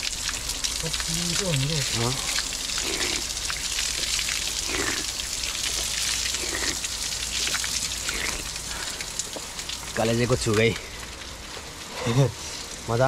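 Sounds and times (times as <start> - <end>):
water pouring onto stone: 0.0 - 13.0.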